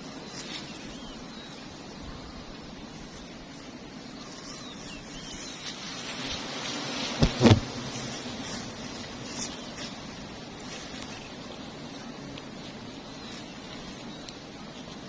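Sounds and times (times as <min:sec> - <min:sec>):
honeybee swarm humming: 0:00.0 - 0:15.0.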